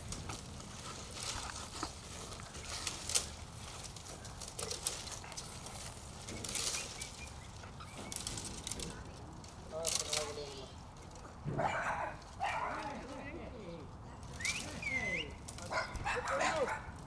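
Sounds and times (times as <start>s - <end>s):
short rustling noises: 0.0s - 17.0s.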